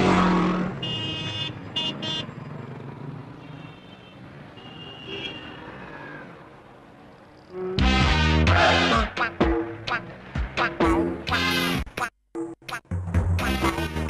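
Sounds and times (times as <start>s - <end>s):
vehicle engine and traffic: 0.0s - 12.0s.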